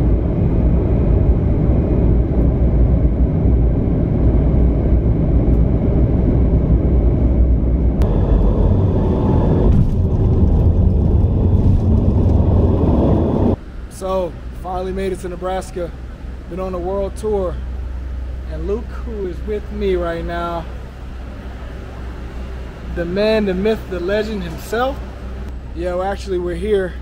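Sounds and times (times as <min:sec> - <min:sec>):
jet engine and airflow rumble: 0:00.0 - 0:27.0.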